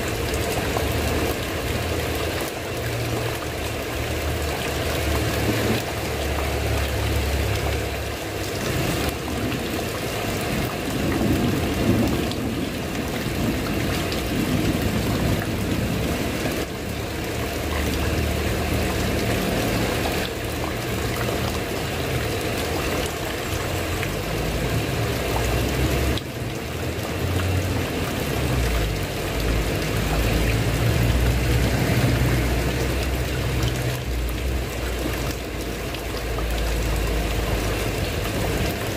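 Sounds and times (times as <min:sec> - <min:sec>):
heavy rain on a tiled roof: 0:00.0 - 0:38.9.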